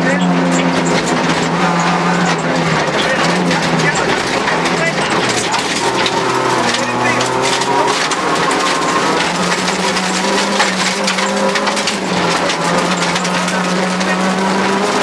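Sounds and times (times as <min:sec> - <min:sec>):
rally car engine at high revs: 0:00.0 - 0:15.0
gravel pinging against underbody: 0:00.6 - 0:15.0.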